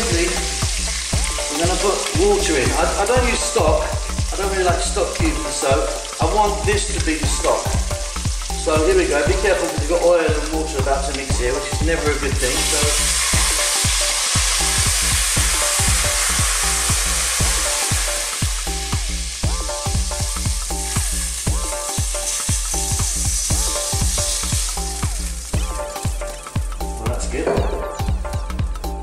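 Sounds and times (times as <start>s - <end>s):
hot oil sizzling and spitting: 0.0s - 29.0s.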